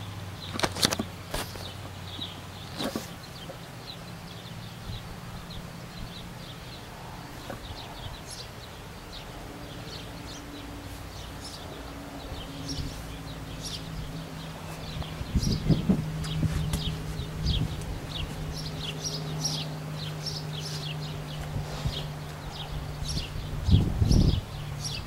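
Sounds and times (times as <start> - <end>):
low steady hum: 0.0 - 25.0
small birds chirping: 0.0 - 25.0.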